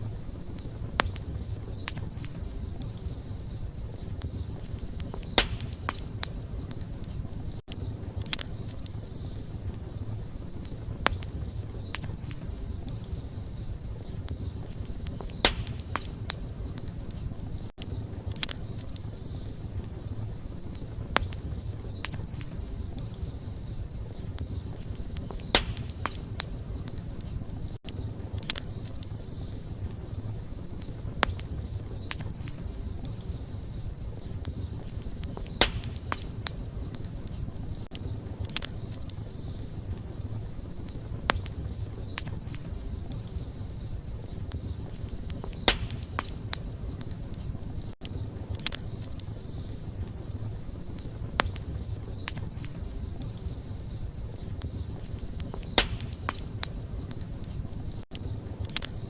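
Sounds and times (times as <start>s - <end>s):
burning wood crackling: 0.0s - 59.0s
campfire flame rumble: 0.0s - 59.0s.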